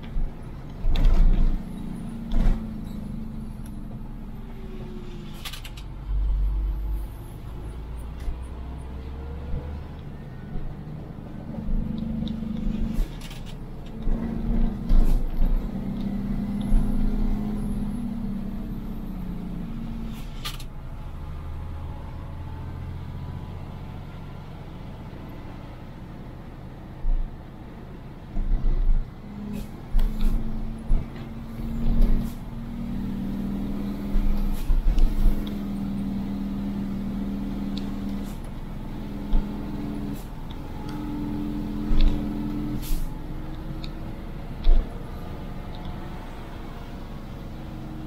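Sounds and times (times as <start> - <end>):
vehicle engine and road rumble: 0.0 - 48.0.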